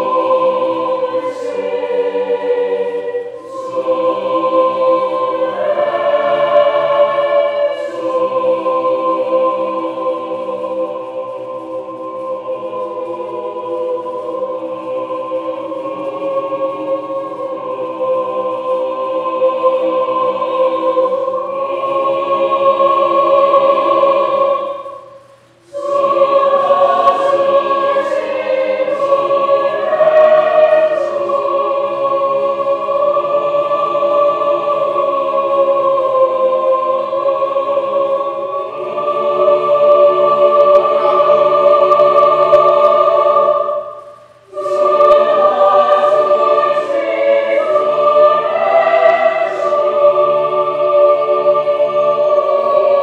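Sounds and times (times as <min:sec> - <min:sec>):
choir singing held chords: 0:00.0 - 0:53.0.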